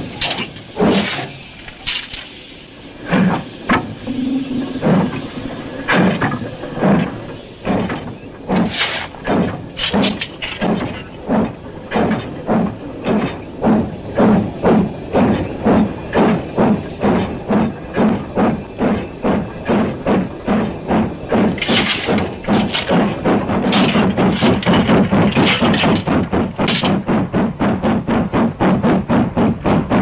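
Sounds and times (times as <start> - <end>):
steam hiss bursts: 0.0 - 27.0
steam locomotive exhaust chuffing: 0.0 - 30.0.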